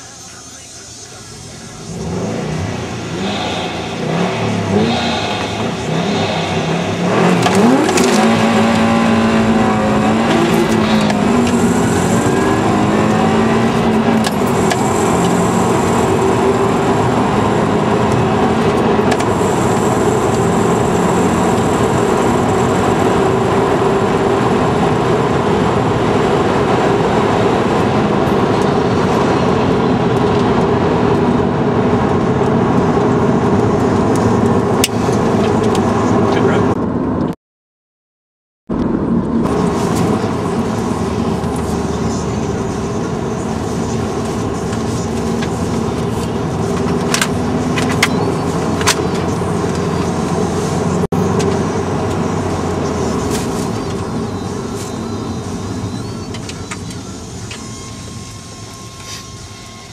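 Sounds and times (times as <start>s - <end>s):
road noise: 0.0s - 37.4s, 38.7s - 59.9s
car engine revving through gears: 0.6s - 37.4s, 38.7s - 59.9s.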